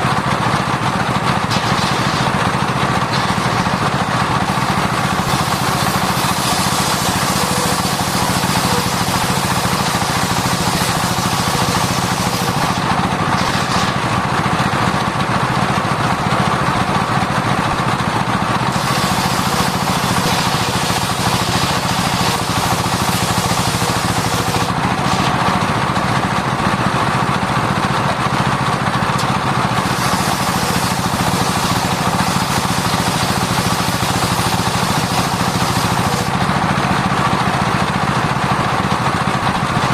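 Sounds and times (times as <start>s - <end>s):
circular sawmill sawing wood: 0.0s - 39.9s.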